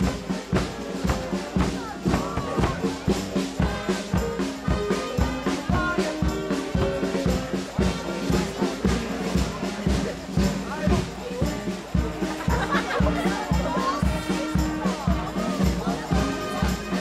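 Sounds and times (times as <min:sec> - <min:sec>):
marching brass band playing: 0:00.0 - 0:17.0
steady drumbeat: 0:00.0 - 0:17.0.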